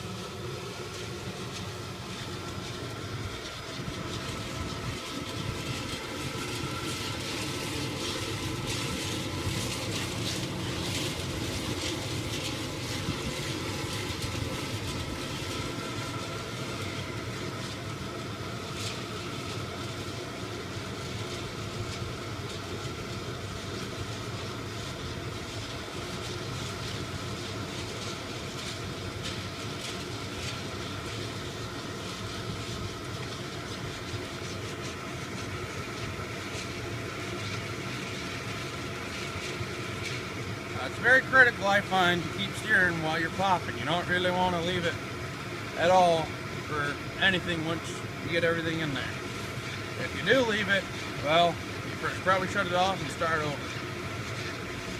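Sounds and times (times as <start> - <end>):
propane burner rushing: 0.0 - 54.9.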